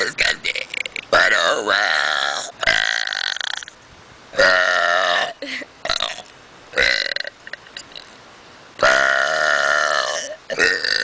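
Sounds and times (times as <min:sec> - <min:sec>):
person burping loudly: 0:00.0 - 0:03.8, 0:04.4 - 0:08.0, 0:08.8 - 0:11.0.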